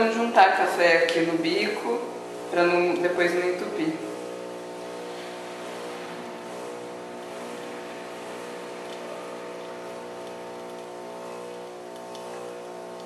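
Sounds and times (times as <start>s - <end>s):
espresso machine pump humming: 0.0s - 13.0s.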